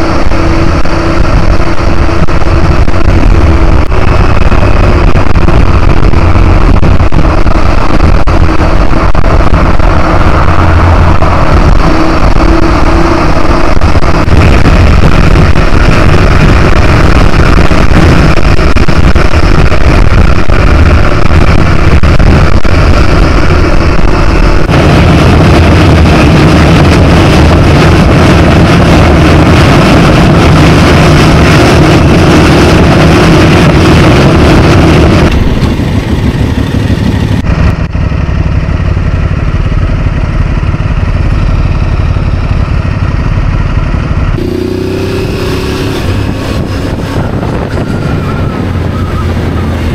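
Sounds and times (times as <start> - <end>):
motorcycle engine drone: 0.0 - 49.9
wind rush on microphone: 0.0 - 49.9.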